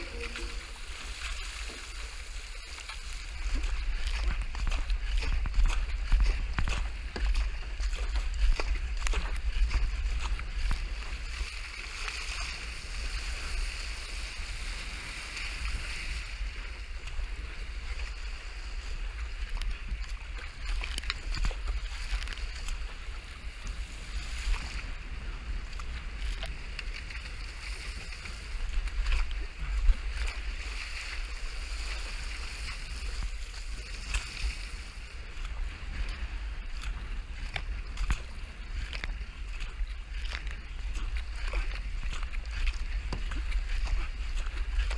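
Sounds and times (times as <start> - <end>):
sea water rushing past hull: 0.0 - 44.9
wind buffeting microphone: 0.0 - 44.9.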